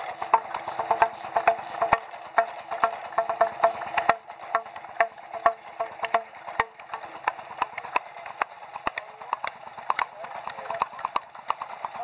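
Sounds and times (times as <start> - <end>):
engine firing in sharp pops: 0.0 - 12.0
engine ticking: 0.0 - 12.0.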